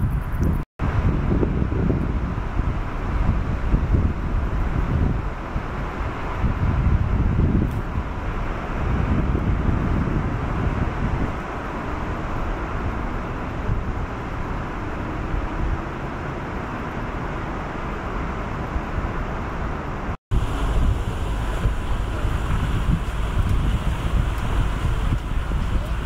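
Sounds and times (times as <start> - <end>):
wind buffeting microphone: 0.0 - 26.0
wind noise on moving boat: 0.0 - 26.0.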